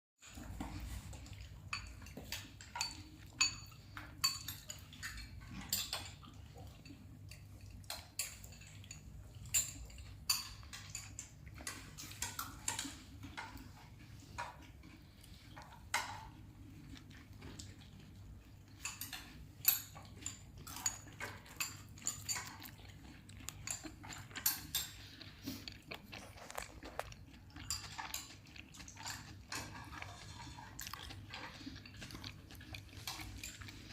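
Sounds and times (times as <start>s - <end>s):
metal utensils and dishes clinking: 0.2s - 14.7s, 18.6s - 25.1s, 26.2s - 33.9s.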